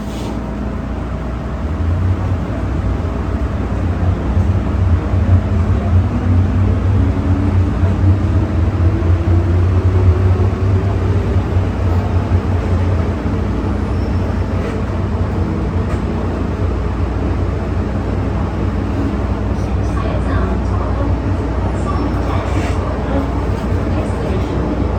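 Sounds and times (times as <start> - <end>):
train rumbling: 0.0 - 24.9.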